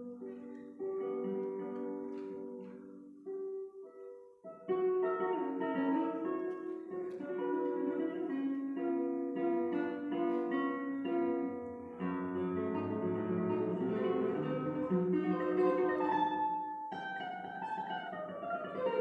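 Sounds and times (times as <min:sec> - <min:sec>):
classical guitar tremolo: 0:00.0 - 0:19.0.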